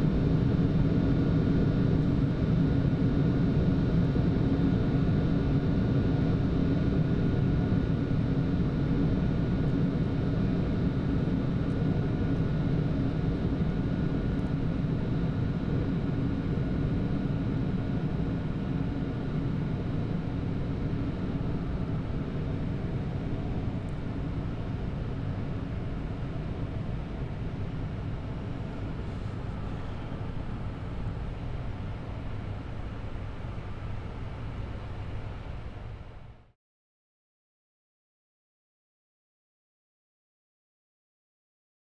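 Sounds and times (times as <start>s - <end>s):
faint steady whine: 0.0s - 36.5s
airflow and engine noise: 0.0s - 36.6s.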